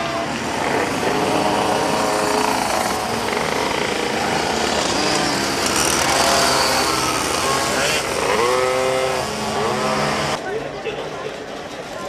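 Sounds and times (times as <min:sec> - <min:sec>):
pocket bike engines buzzing: 0:00.0 - 0:10.5.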